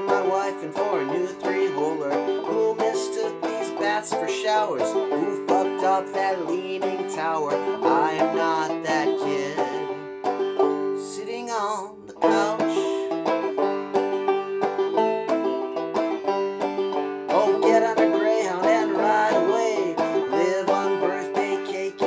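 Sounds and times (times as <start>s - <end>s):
clawhammer banjo: 0.0s - 22.0s.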